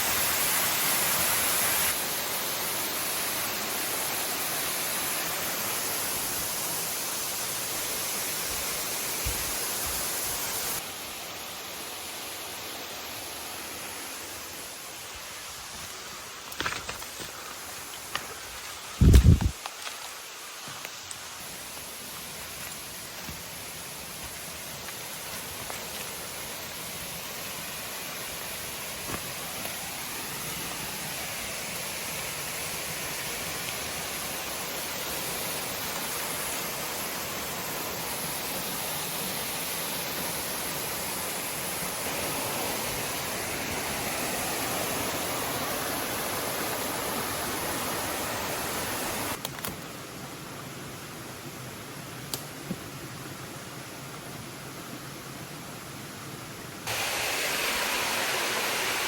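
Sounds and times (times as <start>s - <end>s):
waterfall rushing water: 0.0s - 15.5s, 21.2s - 49.4s, 53.3s - 59.0s.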